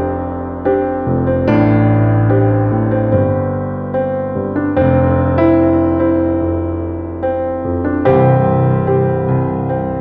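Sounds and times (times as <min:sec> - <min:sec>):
electric piano chords: 0:00.0 - 0:10.0.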